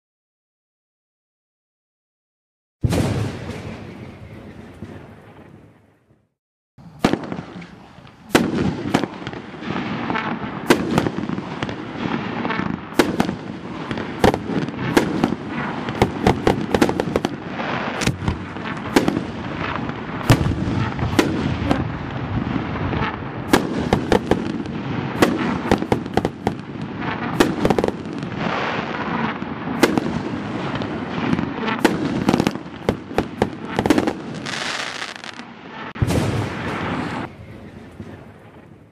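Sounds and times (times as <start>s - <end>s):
firework bangs: 2.8s - 5.6s, 6.8s - 38.9s
firework crackling and hissing: 6.8s - 38.4s.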